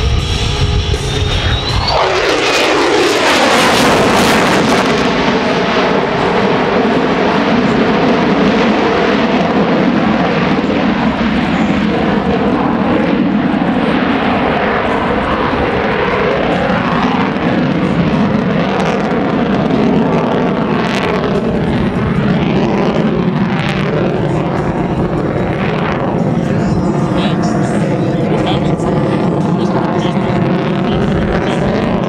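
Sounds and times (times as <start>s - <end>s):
loud jet engine roar: 0.0s - 32.0s
jet engine crackles: 0.9s - 32.0s.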